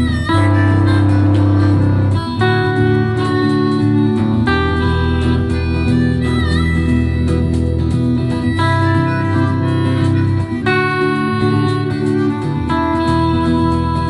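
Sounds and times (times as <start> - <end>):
guitar accompaniment: 0.0 - 14.0
sustained melody notes: 0.0 - 14.0.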